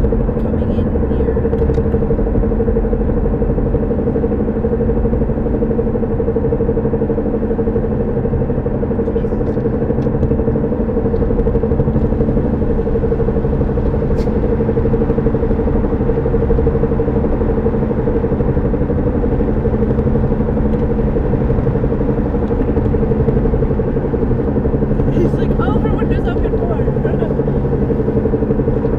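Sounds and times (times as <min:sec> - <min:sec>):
car droning hum: 0:00.0 - 0:28.9
road rumble: 0:00.0 - 0:28.9.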